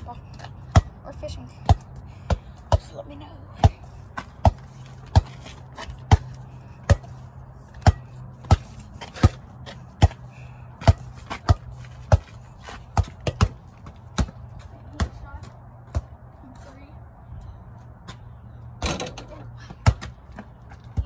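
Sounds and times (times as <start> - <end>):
ball bouncing on pavement: 0.0 - 16.7, 17.9 - 21.0.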